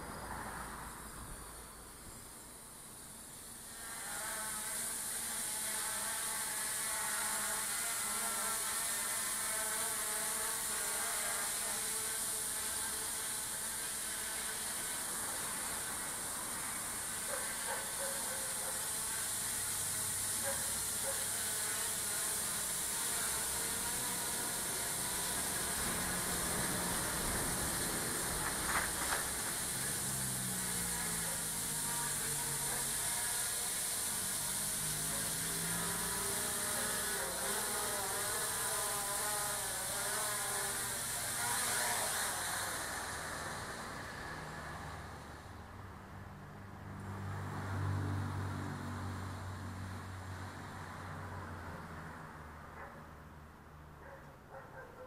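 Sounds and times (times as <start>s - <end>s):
quadcopter motors whining: 0.0s - 45.6s.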